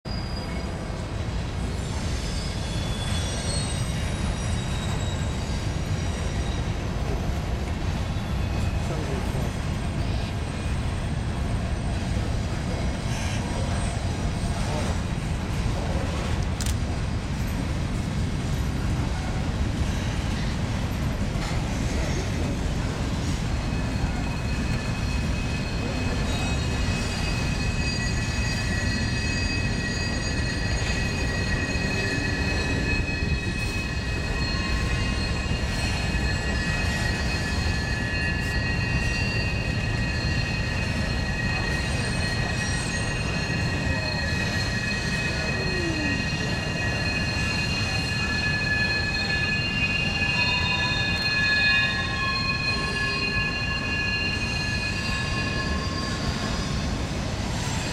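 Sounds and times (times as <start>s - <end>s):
freight train rumbling: 0.0s - 57.9s
high wheel squeals: 0.1s - 16.4s, 18.5s - 57.9s.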